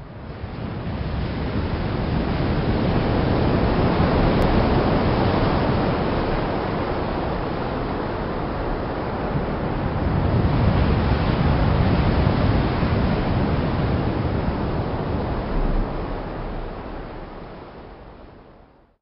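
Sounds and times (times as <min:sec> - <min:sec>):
wind: 0:00.0 - 0:18.9
ocean surf: 0:00.1 - 0:18.6.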